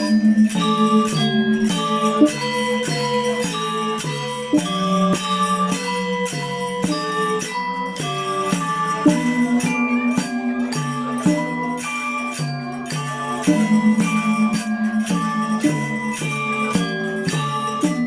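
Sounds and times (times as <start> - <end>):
gamelan ensemble playing: 0.0 - 18.0.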